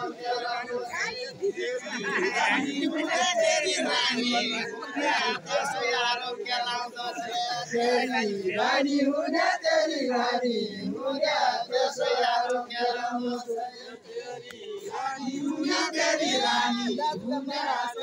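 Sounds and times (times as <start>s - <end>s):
men singing in unison: 0.0s - 18.0s.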